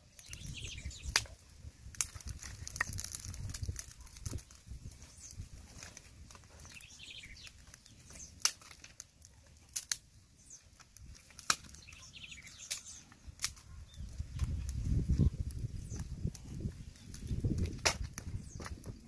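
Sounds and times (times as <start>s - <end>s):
fire popping: 0.0s - 19.0s
wood fire crackling: 0.0s - 19.0s.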